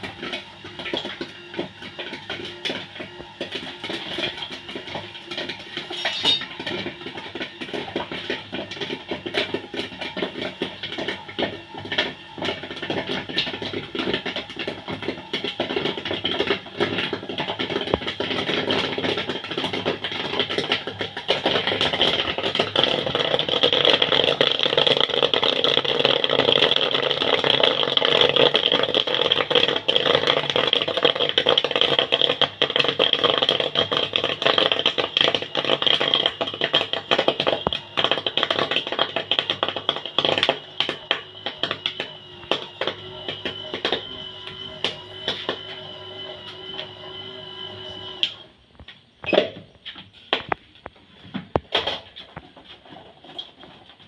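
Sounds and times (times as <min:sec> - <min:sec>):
popcorn kernels clicking and rattling: 0:00.0 - 0:45.7
popcorn machine running: 0:00.0 - 0:49.6, 0:50.3 - 0:54.0.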